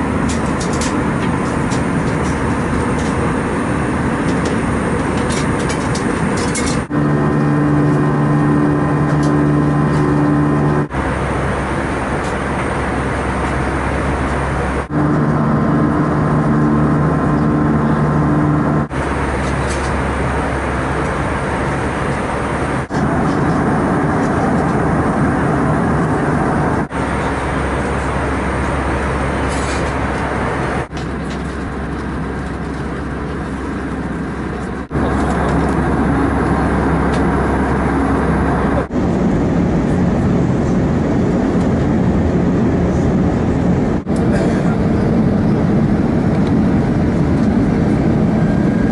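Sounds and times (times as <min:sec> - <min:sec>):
airliner engines in flight: 0:00.0 - 0:48.9
steady low hum: 0:00.0 - 0:48.9.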